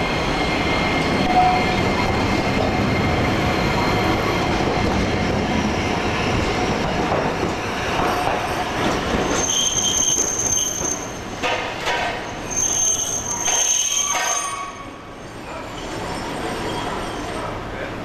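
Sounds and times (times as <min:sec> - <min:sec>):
tram wheels squealing: 0:00.0 - 0:17.7
street background: 0:00.0 - 0:18.0.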